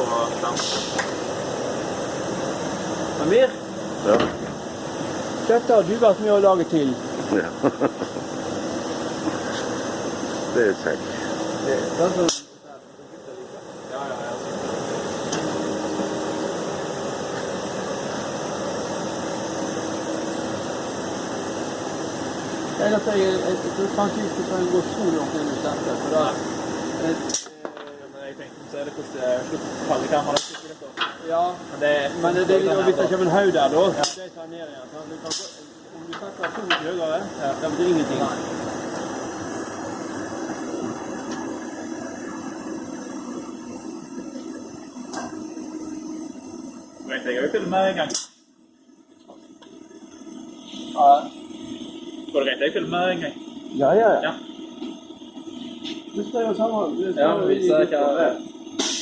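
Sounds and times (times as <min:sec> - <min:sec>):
lathe humming and hissing: 0:00.0 - 0:59.0.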